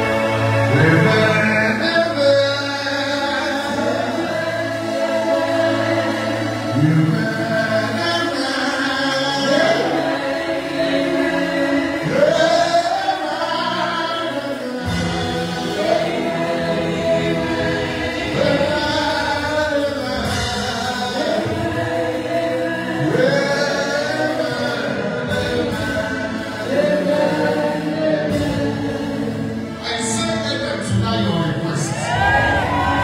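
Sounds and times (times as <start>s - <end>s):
congregation singing: 0.0s - 33.0s
drum kit: 0.0s - 33.0s.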